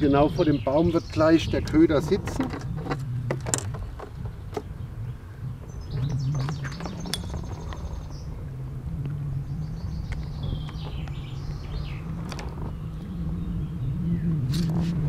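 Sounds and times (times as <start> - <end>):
small bird singing: 0.0 - 3.1, 3.7 - 14.7
steady low hum: 0.0 - 15.0.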